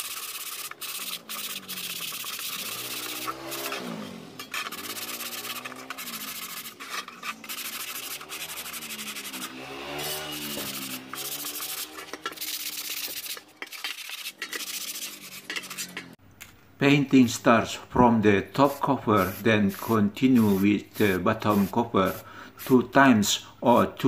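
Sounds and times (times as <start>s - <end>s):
sandpaper rasping on metal: 0.0s - 16.2s, 18.6s - 23.0s.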